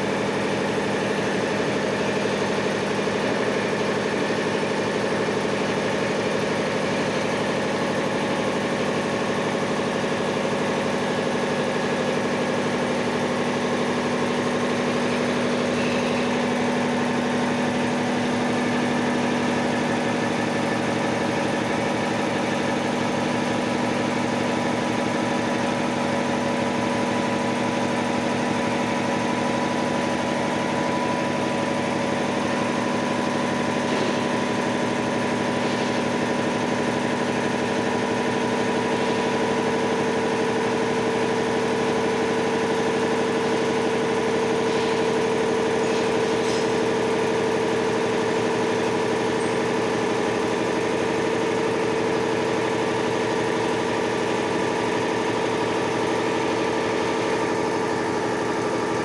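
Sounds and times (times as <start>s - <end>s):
air compressor running: 0.0s - 59.0s.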